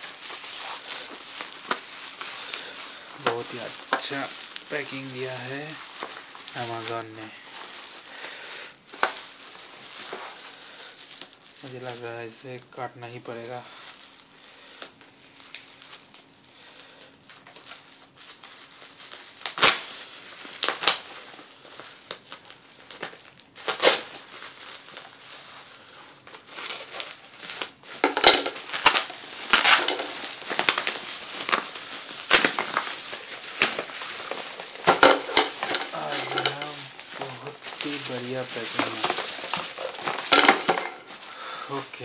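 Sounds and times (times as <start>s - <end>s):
bubble wrap crackling: 0.0s - 42.0s.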